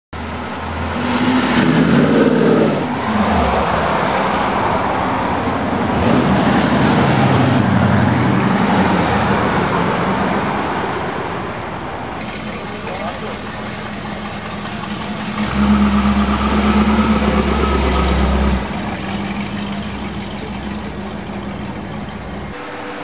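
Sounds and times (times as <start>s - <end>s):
car accelerating with loud exhaust: 0.2s - 23.0s.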